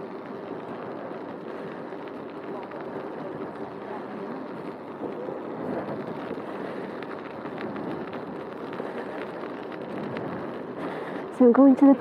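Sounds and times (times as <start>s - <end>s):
bicycle tyre noise on paving: 0.0s - 12.0s
wind rushing over microphone: 0.0s - 12.0s.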